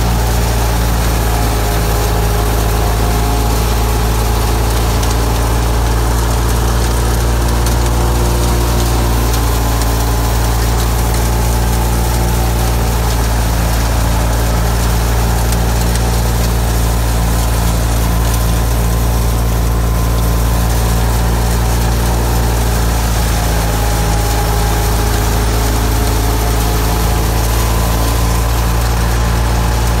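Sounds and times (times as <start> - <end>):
diesel tractor engine running: 0.0 - 30.0
thresher machinery running: 0.0 - 30.0.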